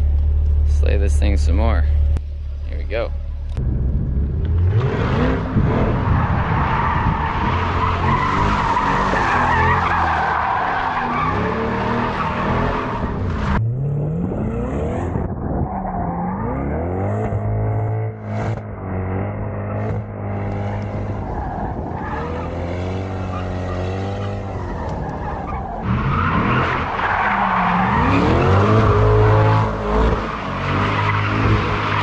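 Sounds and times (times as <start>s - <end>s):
car engine revving: 0.0s - 32.0s
tires squealing: 4.6s - 13.6s, 14.3s - 32.0s.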